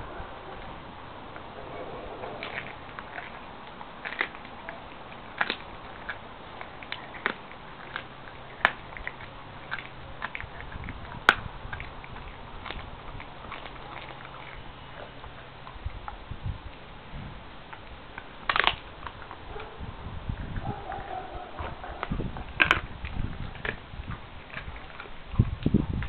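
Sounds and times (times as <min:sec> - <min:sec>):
dog crunching bone: 0:01.3 - 0:17.0, 0:17.6 - 0:26.0.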